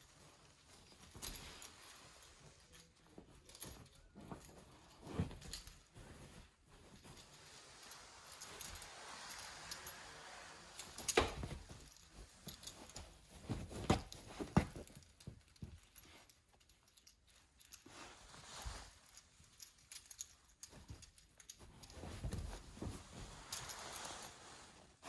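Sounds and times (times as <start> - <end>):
puppy rustling a towel: 0.0 - 16.4, 17.6 - 25.0.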